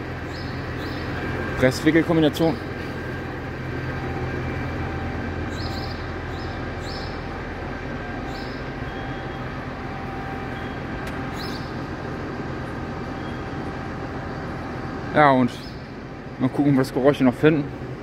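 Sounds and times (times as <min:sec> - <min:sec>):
baler mechanical drone: 0:00.0 - 0:18.0.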